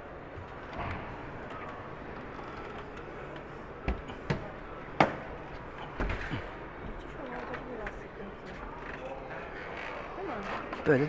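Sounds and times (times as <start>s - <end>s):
crowd hubbub: 1.4s - 11.0s.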